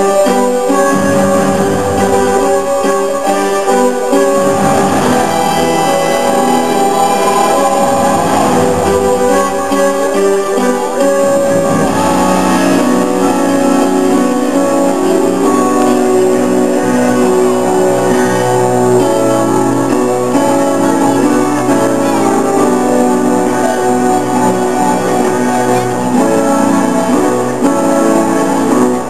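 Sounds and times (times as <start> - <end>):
instrumental music with sustained chords: 0.0 - 29.0.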